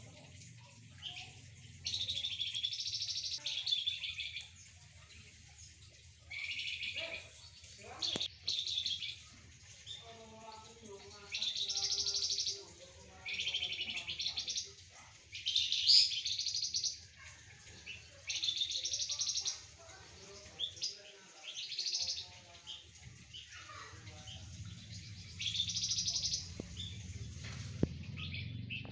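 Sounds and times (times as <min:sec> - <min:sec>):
songbird trilled chatter: 0:00.2 - 0:05.2, 0:06.2 - 0:17.1, 0:17.8 - 0:28.9.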